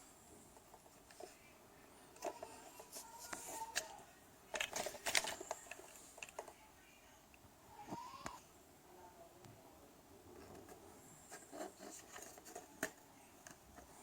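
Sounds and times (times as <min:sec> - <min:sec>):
faint whirring tone: 0:00.0 - 0:14.0.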